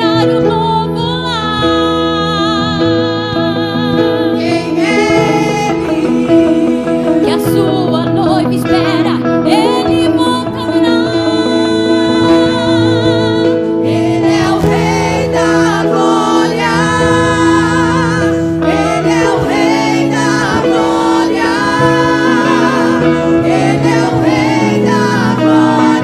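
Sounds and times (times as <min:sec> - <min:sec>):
instrumental accompaniment: 0:00.0 - 0:26.0
women's group singing gospel: 0:02.6 - 0:07.8, 0:09.8 - 0:26.0.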